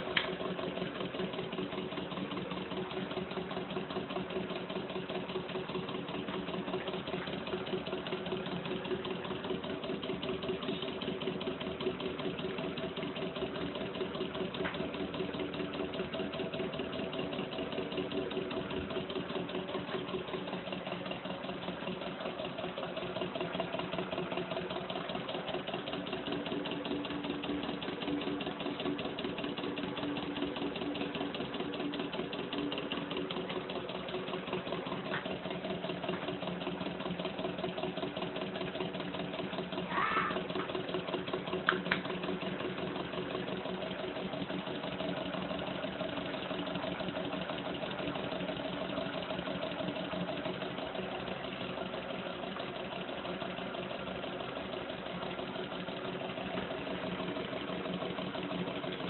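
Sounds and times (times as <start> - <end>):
small engine clattering: 0.0 - 59.0.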